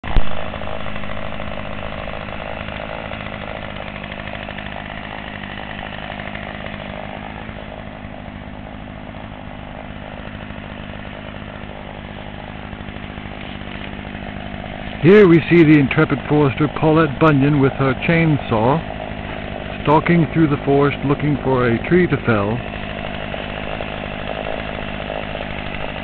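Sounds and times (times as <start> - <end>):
chainsaw running: 0.0 - 26.0.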